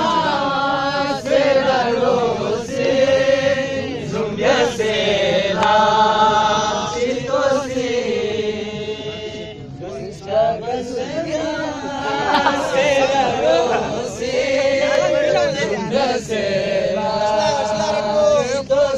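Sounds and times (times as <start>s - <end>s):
men singing long held notes: 0.0s - 18.9s.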